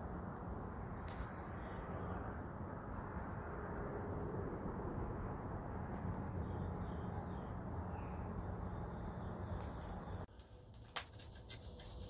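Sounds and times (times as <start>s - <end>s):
outdoor rushing background: 0.0s - 12.0s.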